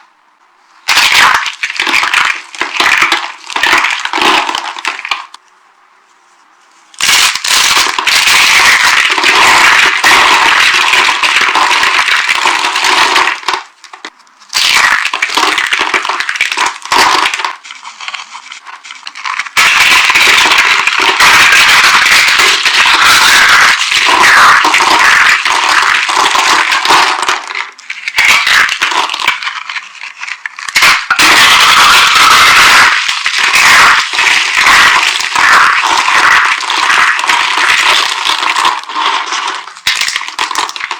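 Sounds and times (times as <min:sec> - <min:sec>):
dry soap crunching: 0:00.8 - 0:05.4, 0:06.9 - 0:40.9.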